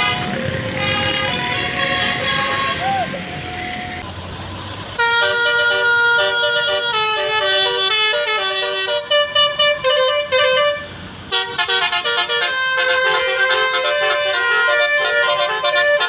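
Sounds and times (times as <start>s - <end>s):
musical bus air horn tune: 0.0s - 4.0s, 5.0s - 16.0s.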